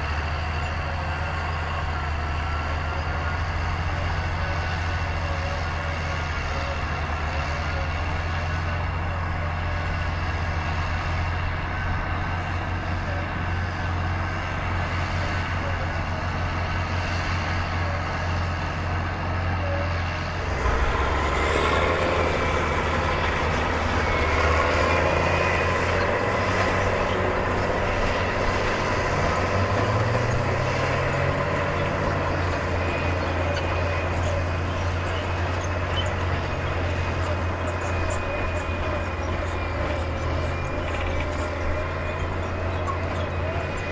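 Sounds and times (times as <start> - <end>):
heavy machinery engines running: 0.0 - 43.9.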